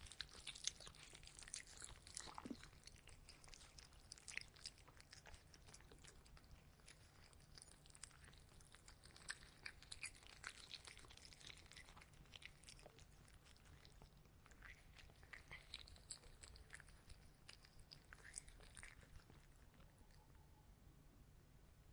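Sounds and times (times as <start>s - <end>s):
cat chewing: 0.0s - 20.3s.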